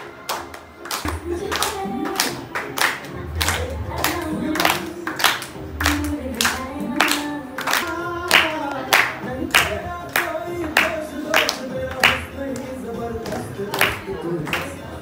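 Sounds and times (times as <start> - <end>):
rhythmic clapping: 0.0 - 15.0
group of people singing: 1.1 - 15.0.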